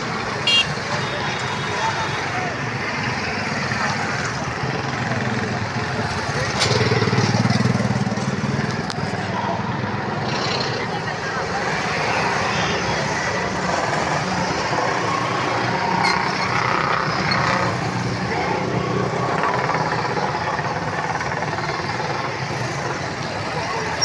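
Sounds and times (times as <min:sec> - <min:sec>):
engine hum and road noise: 0:00.0 - 0:24.0.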